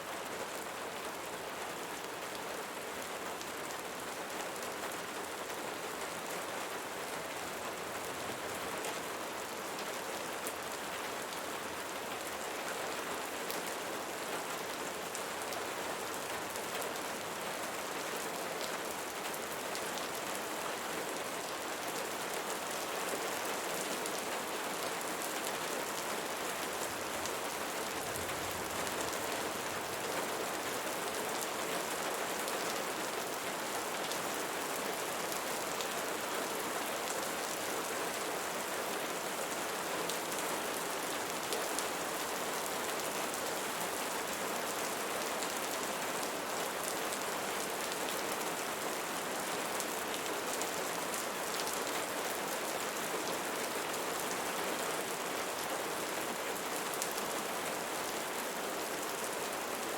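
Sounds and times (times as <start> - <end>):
rain pattering on a surface: 0.1 - 59.9.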